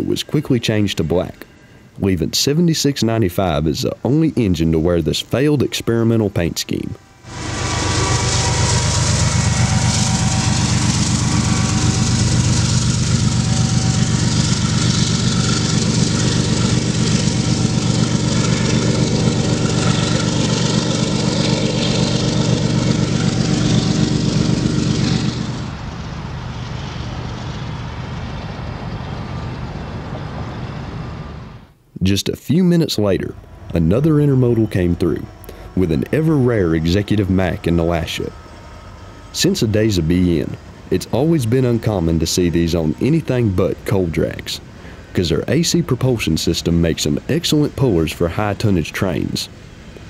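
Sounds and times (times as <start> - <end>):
diesel locomotive drone: 0.0 - 50.0
train wheels rumbling on rail: 7.0 - 31.8, 33.0 - 50.0.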